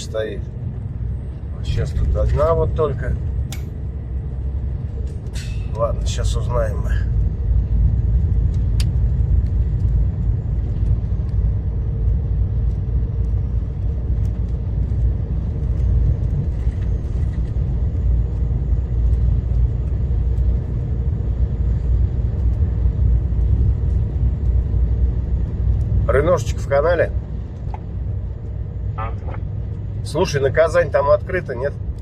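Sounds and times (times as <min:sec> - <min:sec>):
vehicle rumble inside cab: 0:00.0 - 0:32.0.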